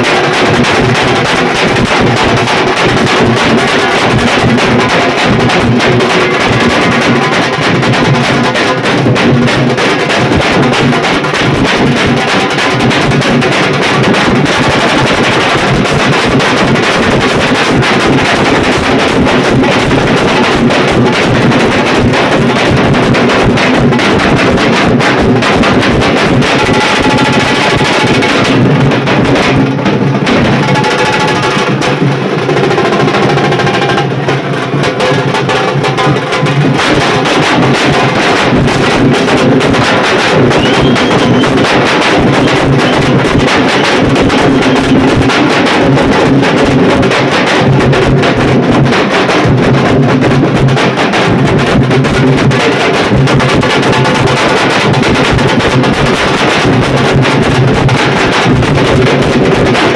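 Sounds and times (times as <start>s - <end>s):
barrel drums beaten with sticks: 0.0s - 59.9s.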